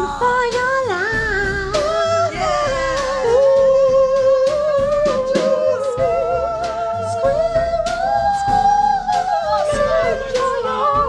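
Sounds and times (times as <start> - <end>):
instrumental backing: 0.0 - 11.0.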